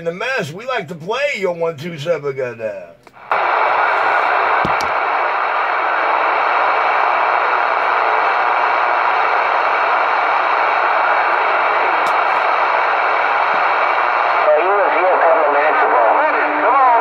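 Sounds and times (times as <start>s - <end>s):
radio static hiss: 2.8s - 17.0s.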